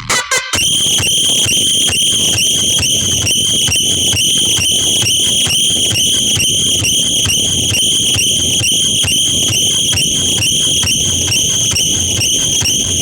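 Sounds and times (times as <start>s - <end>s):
pulsing high-pitched electronic tone: 0.0s - 13.0s.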